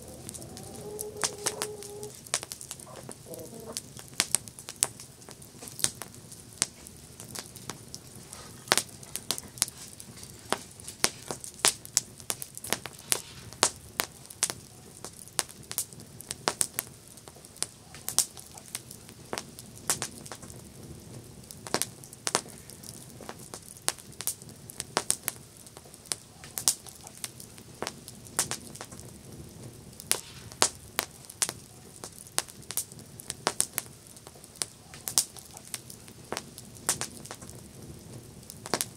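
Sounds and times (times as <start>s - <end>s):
campfire wood crackling: 0.0s - 38.9s
low hiss of flames: 0.0s - 38.9s.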